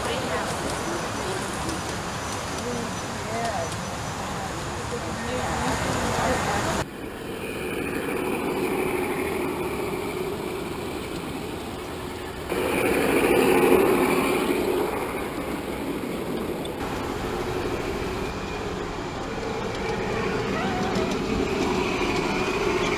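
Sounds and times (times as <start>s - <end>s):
model train motor hum: 0.0s - 22.9s
model train wheel noise: 0.0s - 22.9s.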